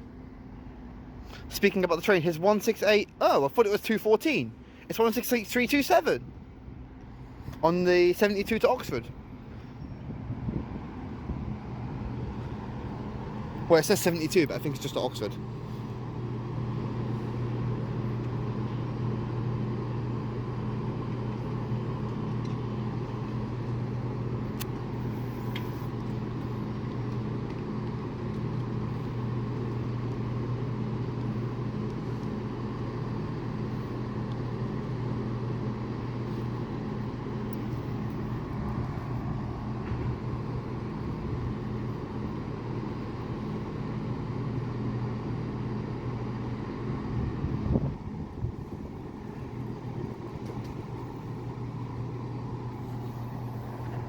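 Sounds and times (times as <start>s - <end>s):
diesel train engine idling: 0.0s - 54.0s.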